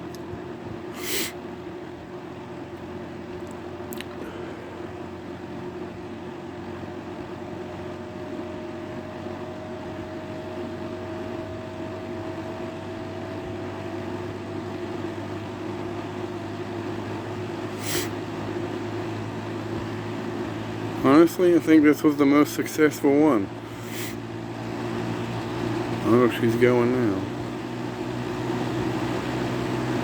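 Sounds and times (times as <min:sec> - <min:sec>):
fan motor humming: 0:00.0 - 0:30.0.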